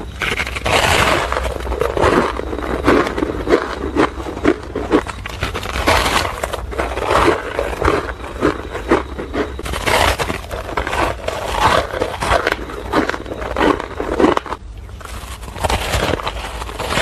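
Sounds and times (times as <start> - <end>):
ice crunching while chewed: 0.0 - 17.0.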